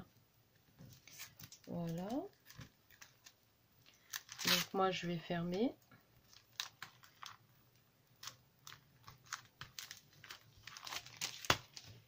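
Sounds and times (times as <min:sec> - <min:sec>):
plastic sleeve crackling: 0:00.8 - 0:05.0, 0:06.2 - 0:12.0.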